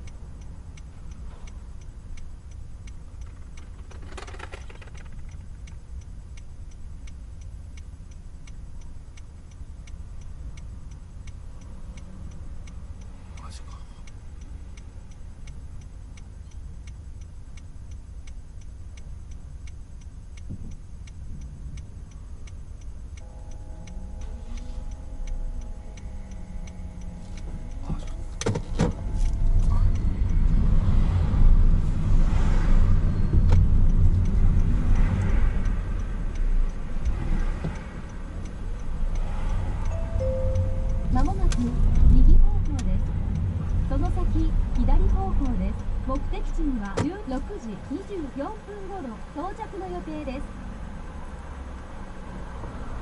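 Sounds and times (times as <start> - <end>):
low engine rumble: 0.0 - 53.0
road noise: 0.0 - 53.0
turn signal ticking: 0.0 - 53.0.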